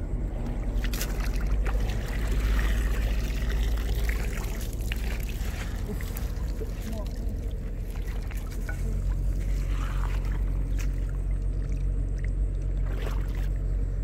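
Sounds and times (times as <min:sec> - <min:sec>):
steady low rumble: 0:00.0 - 0:14.0
water splashing and dripping: 0:00.4 - 0:13.7.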